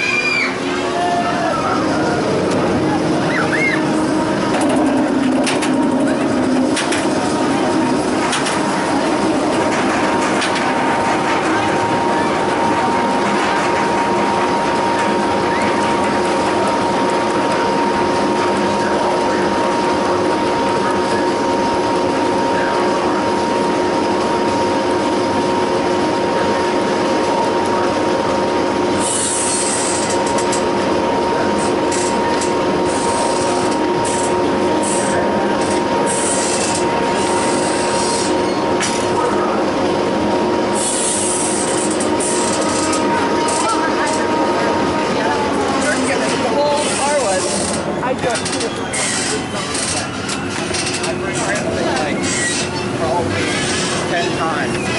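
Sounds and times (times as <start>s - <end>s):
roller coaster chain lift drone: 0.0s - 54.9s.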